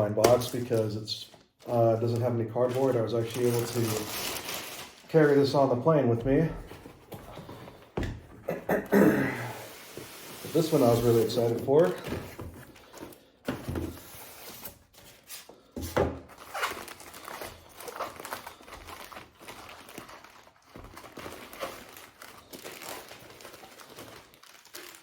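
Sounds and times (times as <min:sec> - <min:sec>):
packaging crinkling and rustling: 0:00.0 - 0:07.9, 0:09.9 - 0:25.0.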